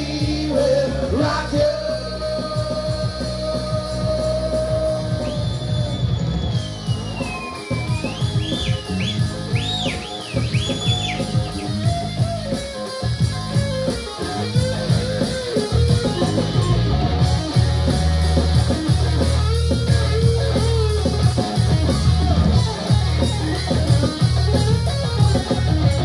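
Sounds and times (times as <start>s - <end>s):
electric guitar high bending notes: 0.0s - 26.0s
rock band playing: 0.0s - 26.0s.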